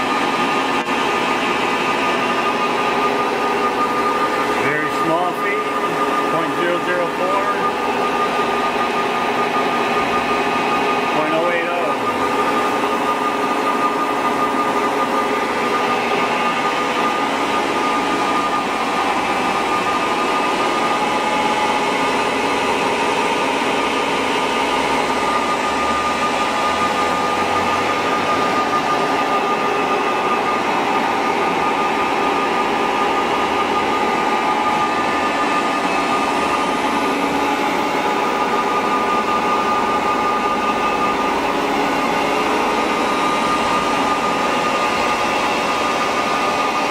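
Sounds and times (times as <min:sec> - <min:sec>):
surface grinder humming and whining: 0:00.0 - 0:46.9.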